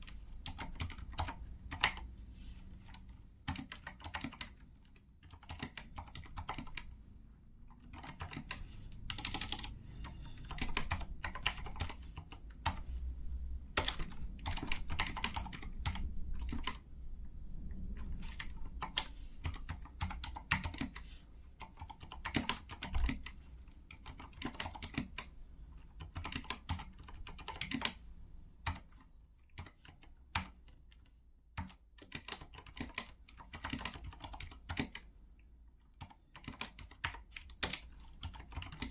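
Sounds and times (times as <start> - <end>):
muted mechanical keyboard typing: 0.0 - 2.1, 2.8 - 6.9, 7.7 - 12.9, 13.7 - 16.8, 17.9 - 28.0, 28.6 - 35.1, 35.9 - 38.9.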